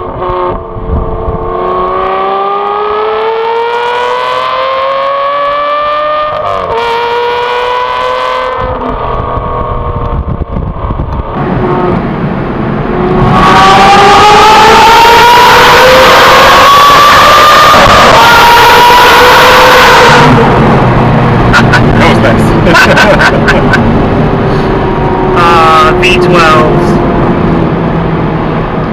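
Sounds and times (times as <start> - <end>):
car engine accelerating hard: 0.0 - 28.9.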